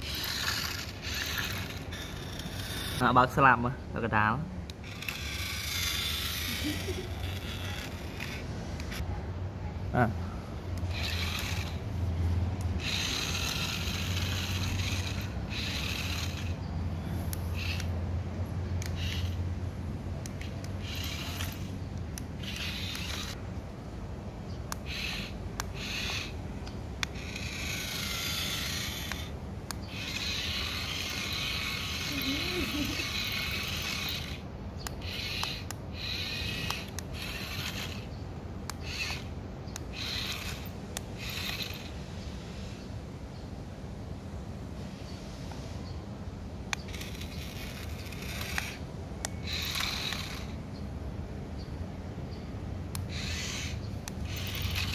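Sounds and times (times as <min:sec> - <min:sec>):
toy motor and gears whirring: 0:00.0 - 0:09.1, 0:10.7 - 0:23.4, 0:24.7 - 0:42.8, 0:46.6 - 0:50.9, 0:52.8 - 0:54.9
steady low hum: 0:03.7 - 0:54.9.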